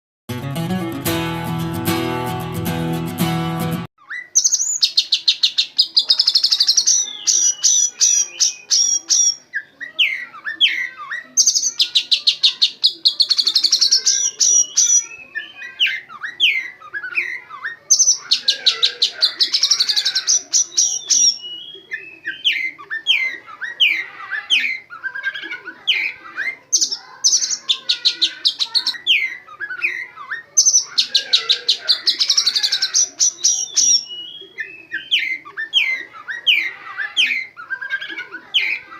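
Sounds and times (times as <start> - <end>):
bird rapid high-pitched notes: 0.3 - 24.0, 26.0 - 38.9.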